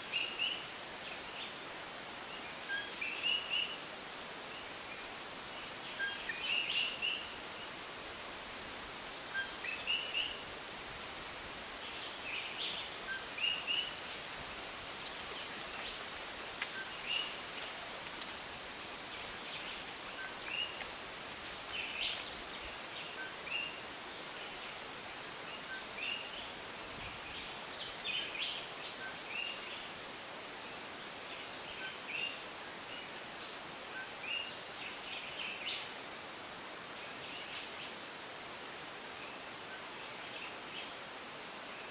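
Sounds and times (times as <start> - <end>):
rainforest background hiss: 0.0 - 41.9.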